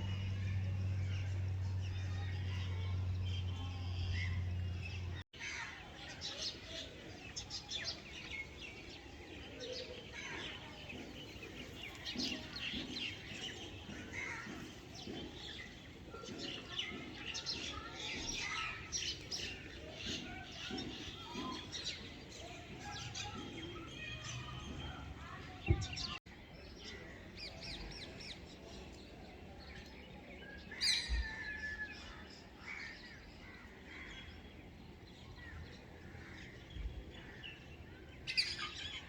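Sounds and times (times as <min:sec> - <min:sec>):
birds chirping and trilling: 0:00.0 - 0:39.0.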